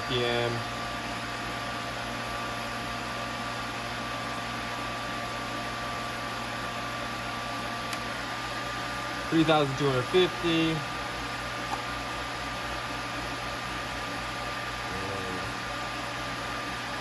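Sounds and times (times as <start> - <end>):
machine spindle hum and whine: 0.0 - 17.0.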